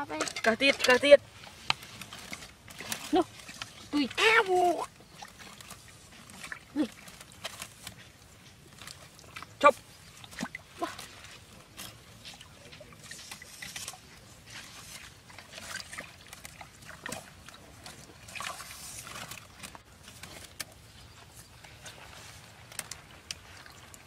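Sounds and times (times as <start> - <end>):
bamboo sticks rustling and clattering: 0.0 - 24.0.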